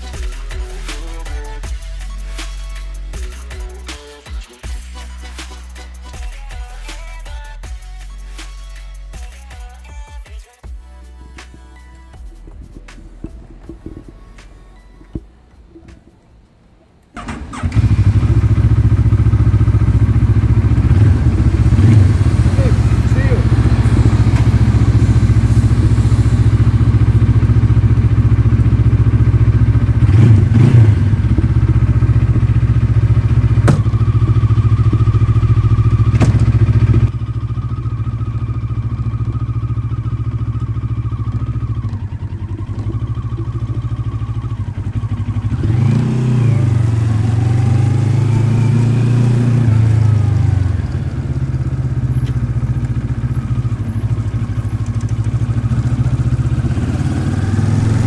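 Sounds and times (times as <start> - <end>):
motorcycle engine idling and revving: 0.0 - 15.9, 17.2 - 58.0.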